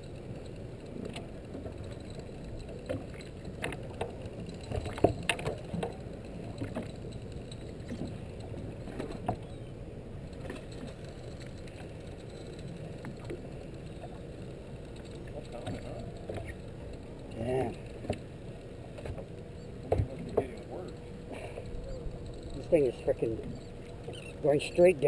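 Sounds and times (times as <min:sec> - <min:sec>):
boat engine low rumble: 0:00.0 - 0:25.0.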